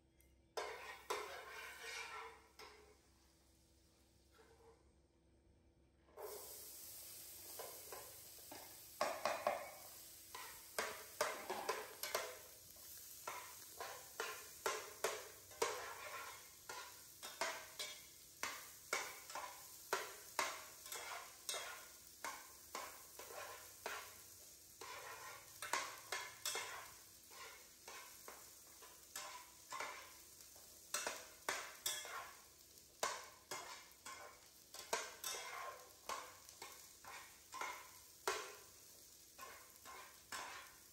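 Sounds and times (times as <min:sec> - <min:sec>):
metal spatula scraping a pan: 0:00.6 - 0:03.0, 0:07.5 - 0:40.9
corn sizzling in butter: 0:00.6 - 0:04.7, 0:06.0 - 0:40.9.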